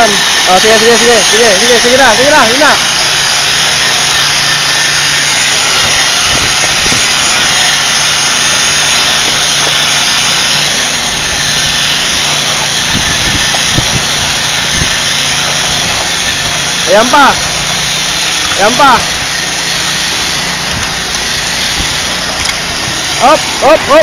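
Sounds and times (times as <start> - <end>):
power tool motor running: 0.0 - 24.0.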